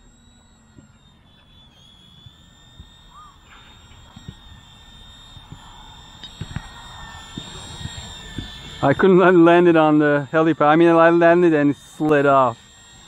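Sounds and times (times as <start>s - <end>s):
rc helicopter high-pitched whine: 0.0s - 13.0s.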